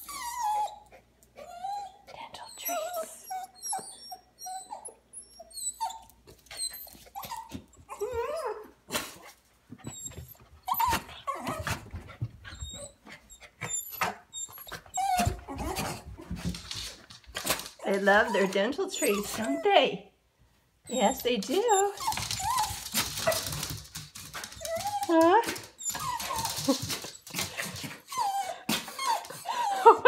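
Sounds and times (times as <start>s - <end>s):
dog whining and whimpering: 0.0s - 8.8s, 9.8s - 11.8s, 12.4s - 16.1s, 17.8s - 20.0s, 20.9s - 23.6s, 24.4s - 30.0s.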